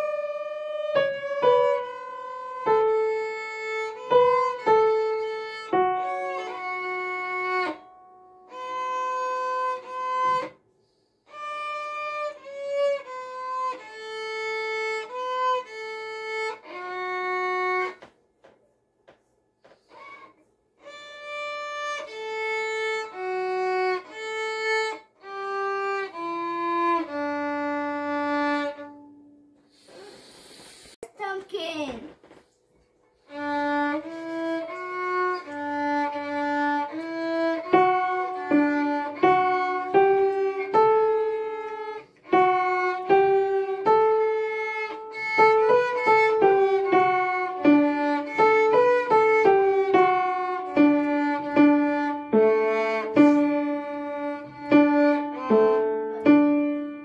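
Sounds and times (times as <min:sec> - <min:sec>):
child playing violin: 0:00.0 - 0:18.1, 0:19.6 - 0:30.1, 0:33.2 - 0:57.0.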